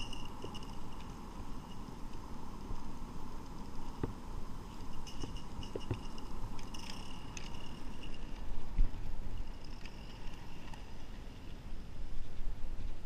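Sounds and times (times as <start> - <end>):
faint steady steam hiss: 0.0 - 13.0.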